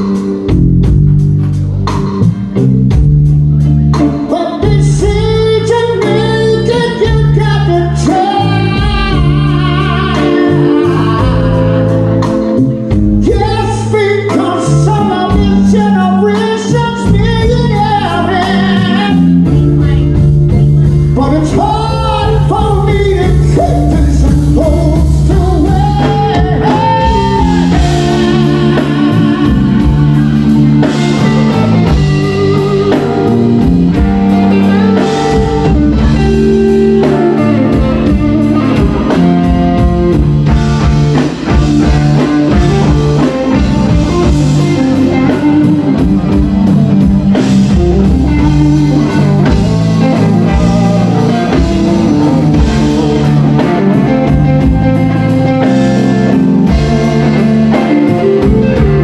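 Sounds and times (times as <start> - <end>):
drum kit: 0.0 - 59.0
electric guitars with bent notes: 0.0 - 59.0.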